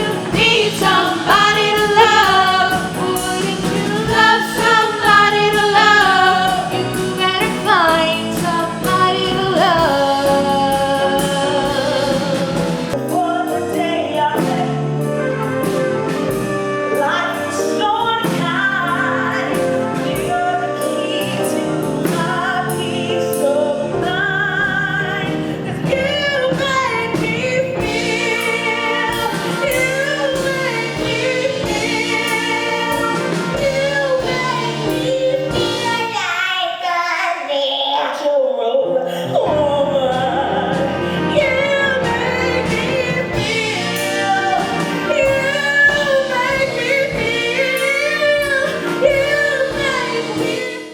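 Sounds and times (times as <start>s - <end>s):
band accompaniment: 0.0s - 36.5s, 39.3s - 50.9s
women singing with harmonies: 0.0s - 50.9s.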